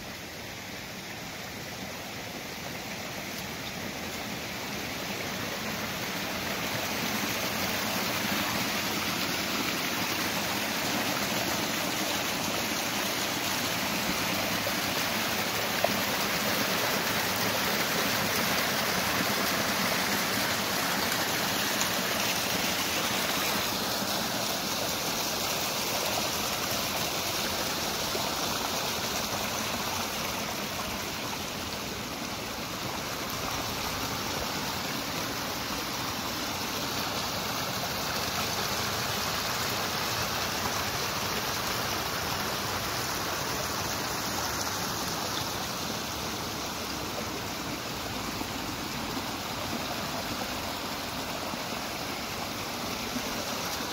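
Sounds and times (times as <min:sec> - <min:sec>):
stream splashing over rocks: 0:00.0 - 0:53.9.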